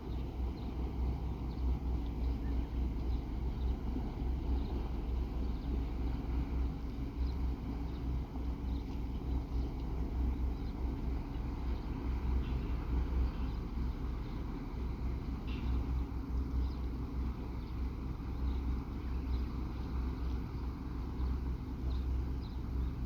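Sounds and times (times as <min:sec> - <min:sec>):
faint steady hum: 0:00.0 - 0:23.0
ship engines rumbling: 0:00.0 - 0:23.0.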